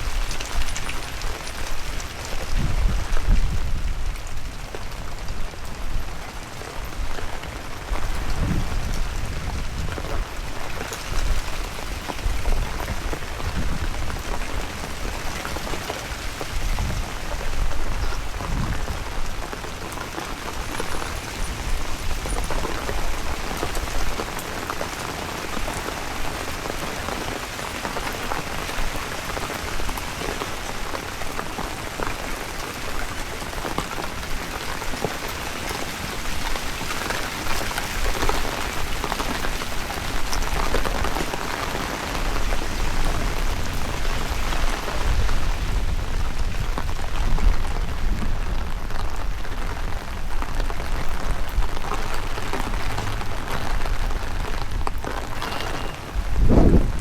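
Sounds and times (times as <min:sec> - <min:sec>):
wind gusts hitting microphone: 0:00.0 - 0:27.4, 0:36.0 - 0:57.0
heavy rain hissing and pattering: 0:00.0 - 0:57.0.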